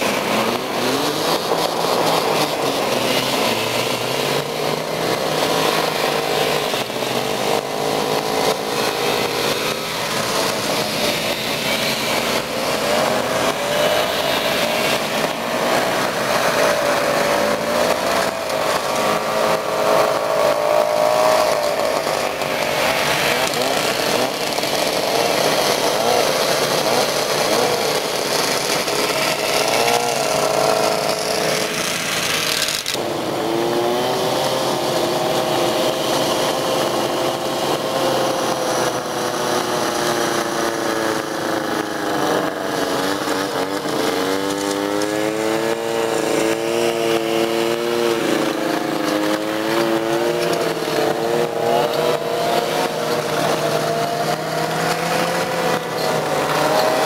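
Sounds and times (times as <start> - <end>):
snowmobile engines passing: 0.0 - 57.0.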